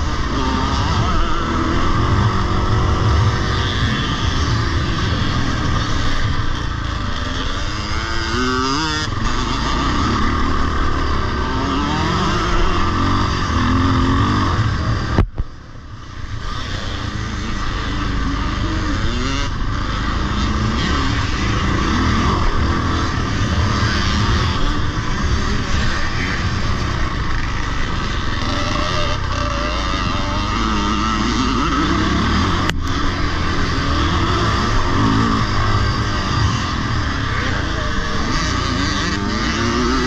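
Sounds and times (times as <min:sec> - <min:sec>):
motorbike engine revving: 0:00.0 - 0:40.0.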